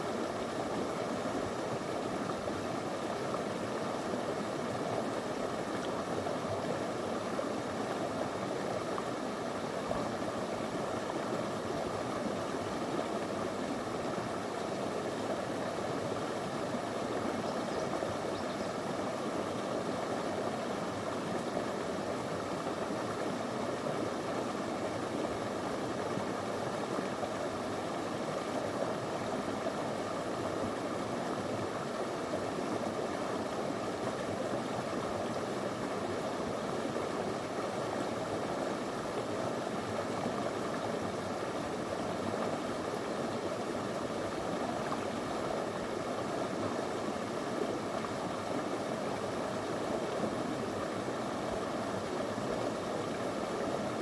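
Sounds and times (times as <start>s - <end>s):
shallow river flowing over stones: 0.0s - 54.0s.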